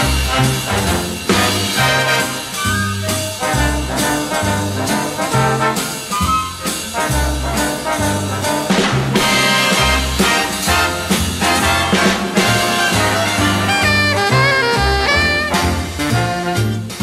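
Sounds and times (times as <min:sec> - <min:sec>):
bass line: 0:00.0 - 0:17.0
swing music with brass: 0:00.0 - 0:17.0.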